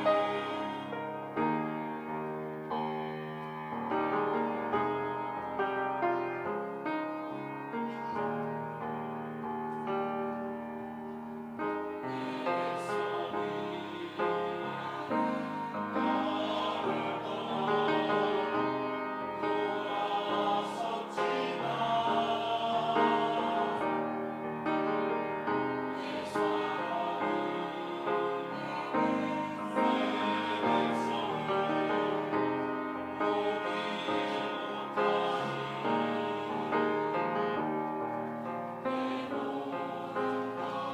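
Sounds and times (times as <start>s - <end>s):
choir singing: 0.0s - 40.9s
piano: 0.0s - 40.9s.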